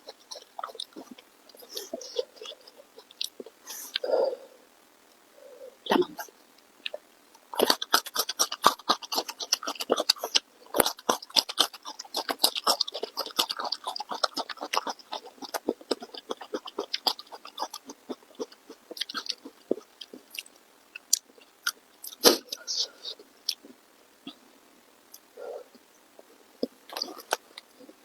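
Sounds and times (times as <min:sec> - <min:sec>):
close-miked chewing: 0:00.0 - 0:04.5, 0:05.8 - 0:24.4, 0:25.1 - 0:28.0.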